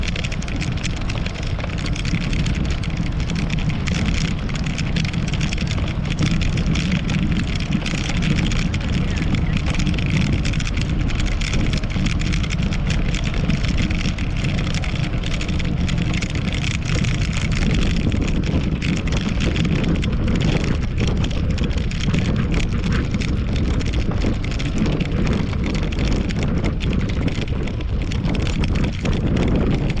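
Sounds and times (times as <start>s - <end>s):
bicycle road rumble: 0.0s - 30.0s
light crackle from vibration: 0.0s - 30.0s
wind buffeting microphone: 0.0s - 30.0s.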